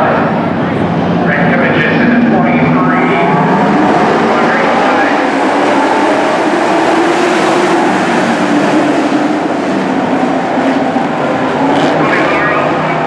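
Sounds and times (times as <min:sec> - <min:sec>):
racing truck engines droning: 0:00.0 - 0:13.0.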